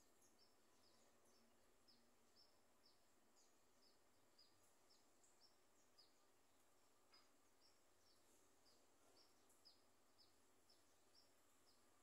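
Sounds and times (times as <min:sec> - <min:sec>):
faint high bird chirps: 0:00.0 - 0:12.0.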